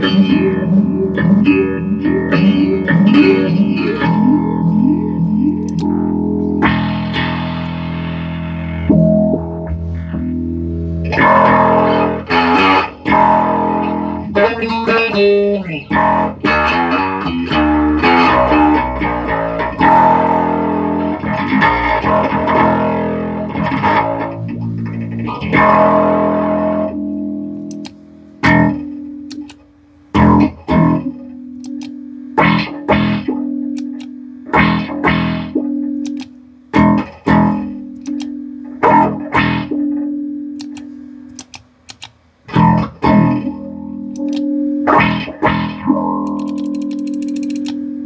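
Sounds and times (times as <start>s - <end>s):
filtered plucked string notes: 0.0s - 48.0s.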